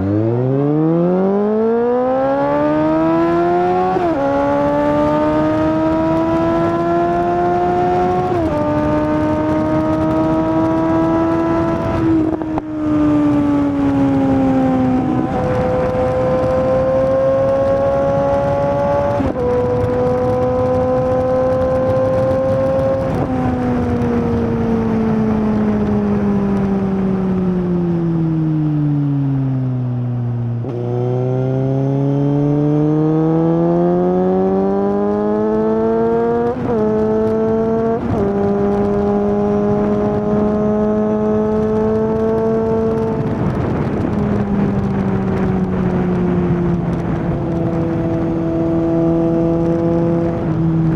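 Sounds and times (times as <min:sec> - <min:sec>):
motorcycle engine revving: 0:00.0 - 0:28.4, 0:29.0 - 0:50.9.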